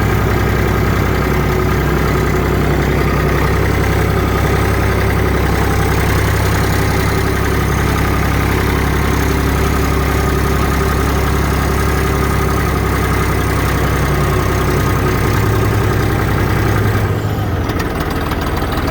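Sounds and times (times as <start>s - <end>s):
tractor diesel engine idling: 0.0s - 18.9s.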